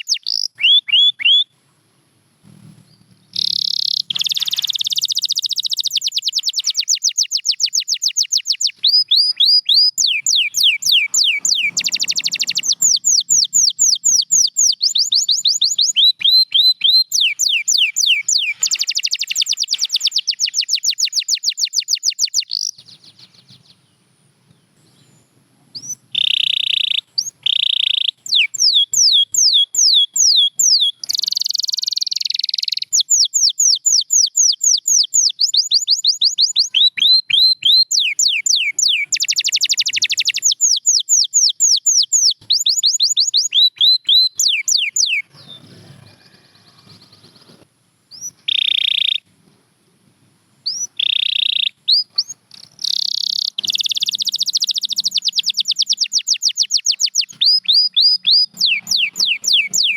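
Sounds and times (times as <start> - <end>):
canary singing trills: 0.0 - 1.6, 2.4 - 49.3, 50.6 - 59.9.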